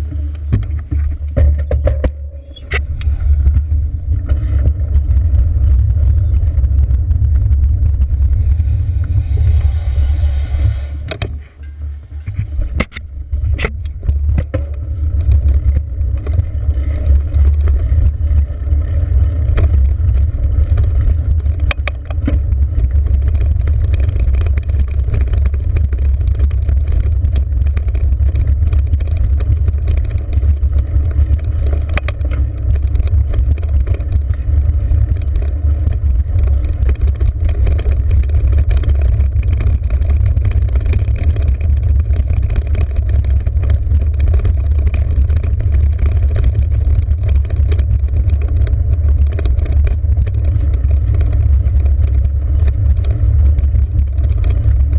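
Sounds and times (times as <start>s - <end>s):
sharp clicks and knocks: 0.0s - 9.2s, 11.0s - 54.9s
bicycle rumbling on trail: 0.0s - 54.9s.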